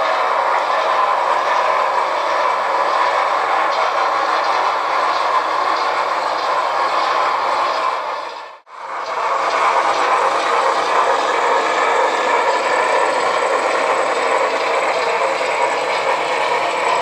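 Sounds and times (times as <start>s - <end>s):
model train wheels rolling on track: 0.0s - 17.0s.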